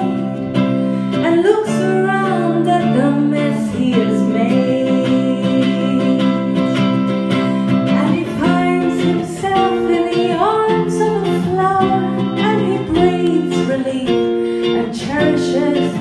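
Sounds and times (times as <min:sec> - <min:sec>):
electric guitar: 0:00.0 - 0:16.0
woman singing: 0:00.0 - 0:16.0.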